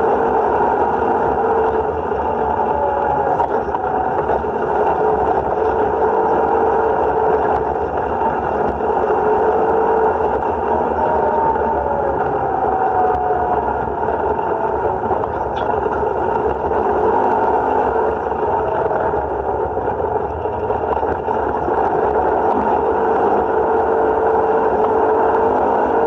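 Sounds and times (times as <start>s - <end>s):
tyres on dirt and gravel: 0.0s - 26.0s
utility vehicle engine running: 0.0s - 26.0s.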